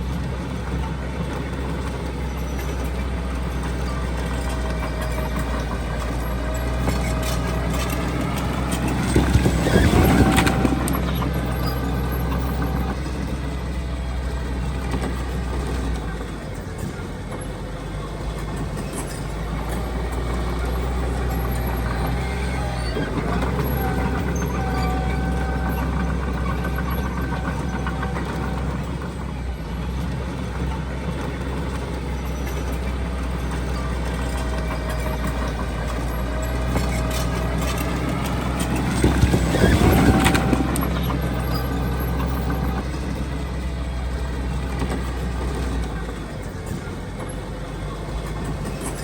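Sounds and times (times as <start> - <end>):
diesel machinery running: 0.0 - 49.0.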